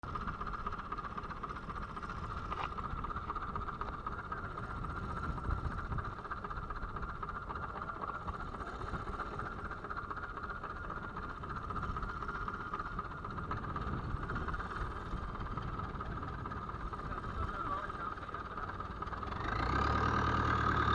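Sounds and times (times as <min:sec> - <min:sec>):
boat engine whine and rumble: 0:00.0 - 0:20.9.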